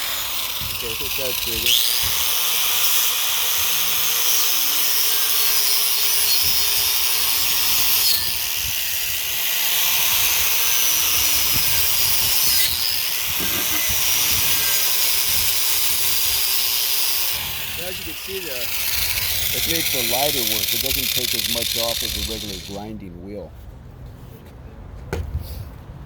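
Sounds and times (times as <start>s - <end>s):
angle grinder wire wheel scraping metal: 0.0s - 23.0s.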